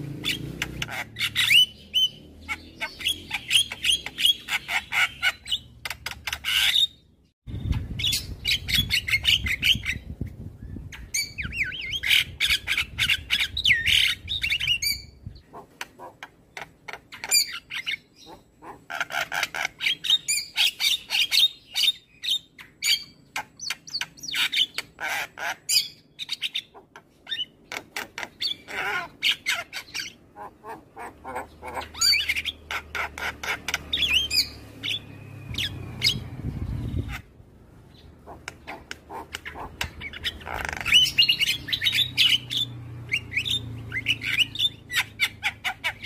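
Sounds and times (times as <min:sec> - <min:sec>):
bird chattering and squawking: 0:00.0 - 0:10.2, 0:10.8 - 0:46.0.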